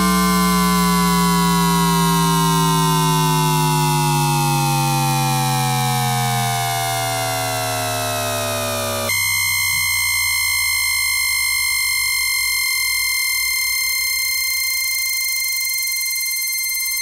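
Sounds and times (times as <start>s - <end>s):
falling electronic tones: 0.0s - 17.0s
steady electronic carrier whine: 0.0s - 17.0s.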